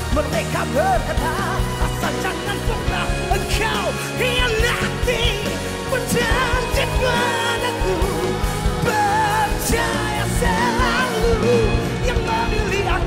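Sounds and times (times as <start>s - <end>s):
person singing with vibrato: 0.0s - 13.0s
pop ballad with band: 0.0s - 13.0s.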